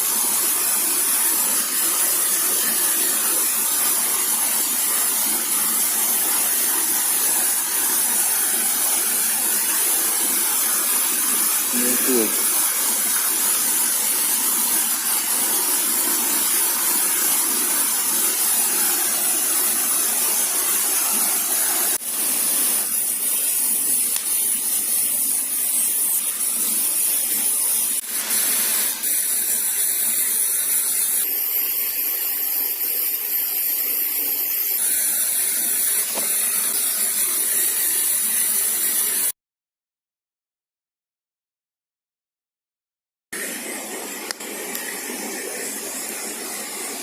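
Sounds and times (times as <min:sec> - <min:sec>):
steady hissing noise: 0:00.0 - 0:39.3, 0:43.4 - 0:47.0.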